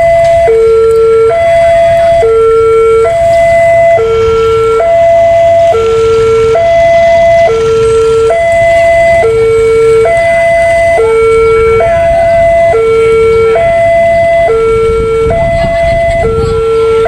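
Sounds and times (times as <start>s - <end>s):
two-tone level crossing alarm: 0.0s - 17.0s.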